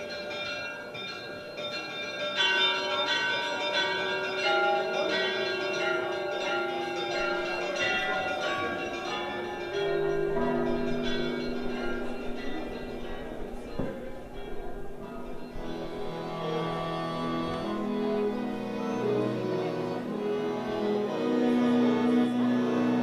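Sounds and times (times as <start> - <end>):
bells ringing: 0.0 - 23.0.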